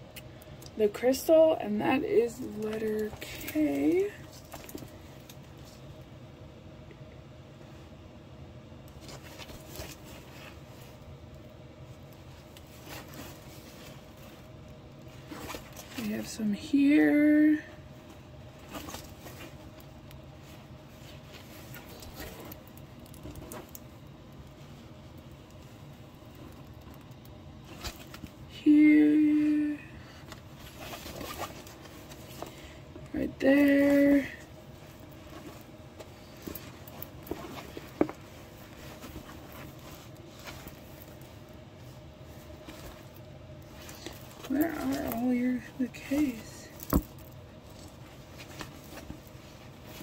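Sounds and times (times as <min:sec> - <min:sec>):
low room hum: 0:00.0 - 0:50.0
canvas rustling and rubbing: 0:09.0 - 0:50.0.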